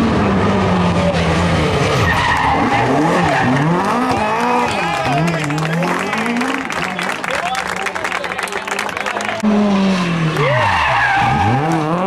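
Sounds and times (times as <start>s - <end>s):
rally car engine revving: 0.0s - 7.6s, 8.8s - 12.0s.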